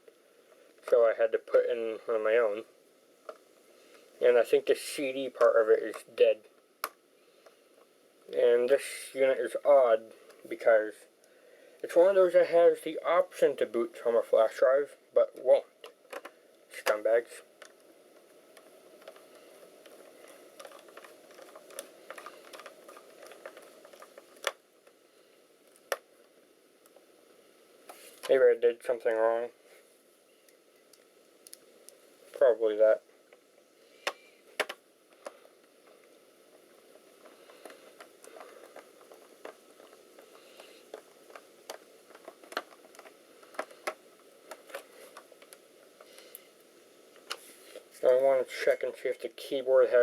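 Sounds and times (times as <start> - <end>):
faint steady hiss: 0.0 - 50.0.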